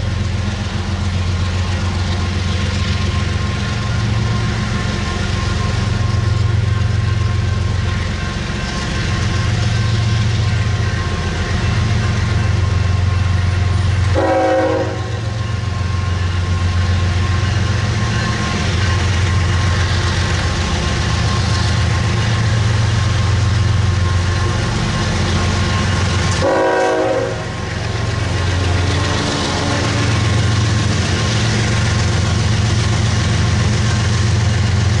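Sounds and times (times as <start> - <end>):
locomotive engine droning: 0.0 - 35.0.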